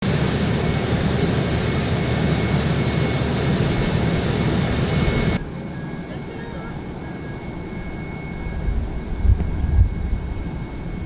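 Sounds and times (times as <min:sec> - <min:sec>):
jet engines roaring with whine: 0:00.0 - 0:11.0.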